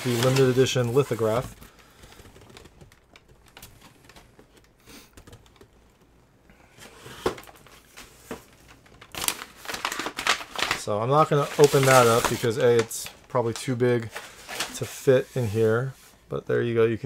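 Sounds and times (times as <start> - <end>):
cardboard and paper rustling: 0.0 - 4.7, 6.7 - 16.0.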